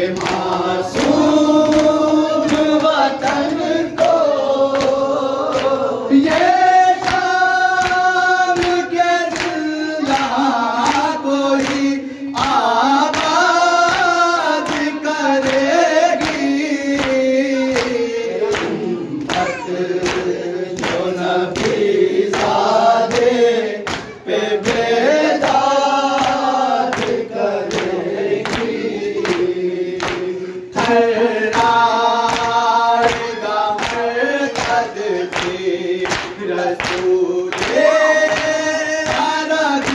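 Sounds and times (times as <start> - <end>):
men chanting in unison: 0.0 - 39.9.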